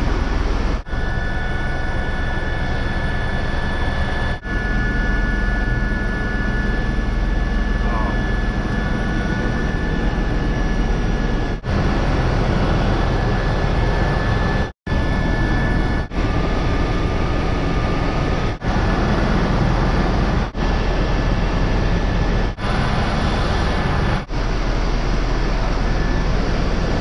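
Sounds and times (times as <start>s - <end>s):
helicopter engine and rotor rumble: 0.0s - 27.0s
thin steady whine: 0.0s - 27.0s.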